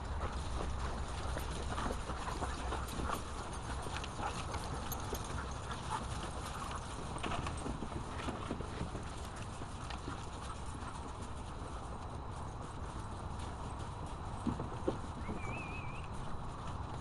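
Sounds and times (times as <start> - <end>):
dogs' paws on gravel: 0.0 - 17.0.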